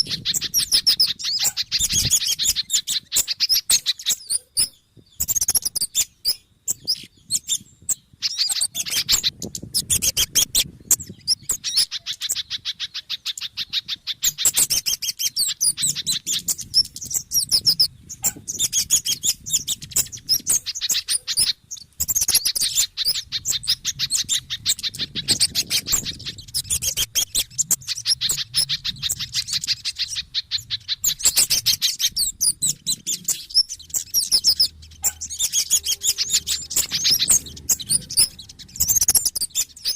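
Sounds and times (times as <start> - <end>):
songbirds chattering chirps: 0.0 - 39.9.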